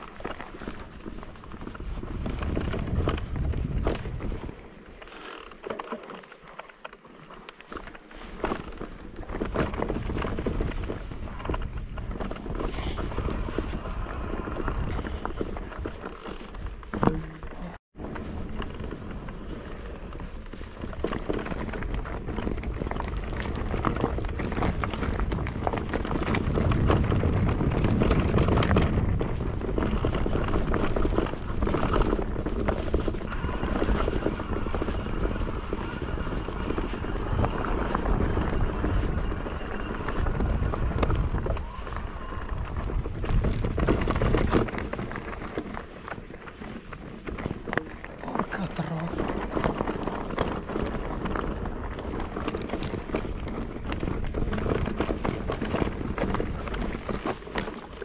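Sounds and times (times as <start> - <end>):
wind on microphone: 0.0 - 5.0, 8.4 - 58.0
bike rattling: 0.0 - 58.0.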